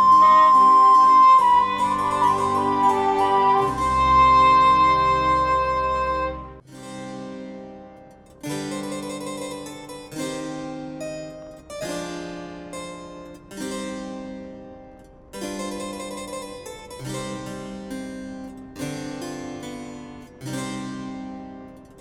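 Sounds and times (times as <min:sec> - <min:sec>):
harpsichord-like keyboard chords: 0:00.0 - 0:06.7, 0:08.3 - 0:22.0.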